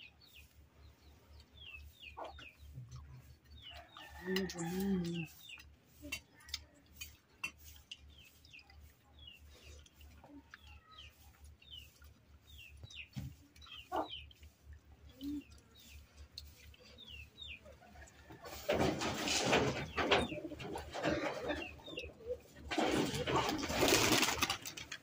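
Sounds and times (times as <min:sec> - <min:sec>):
small birds chirping: 0:00.0 - 0:18.6, 0:19.5 - 0:25.0
chicken clucking: 0:00.0 - 0:24.4.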